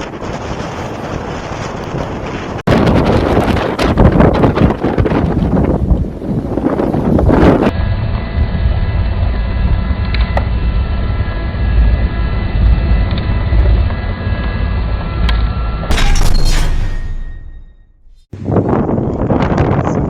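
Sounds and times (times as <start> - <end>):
wind buffeting microphone: 0.0 - 15.2, 18.3 - 20.0.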